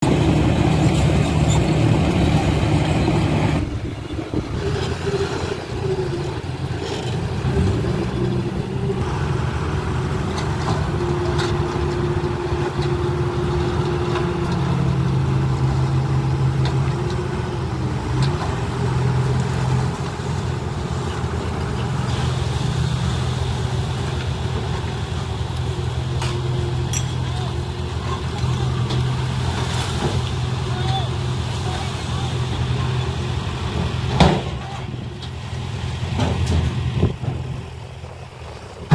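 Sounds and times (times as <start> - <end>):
heavy machinery diesel engines: 0.0 - 38.9.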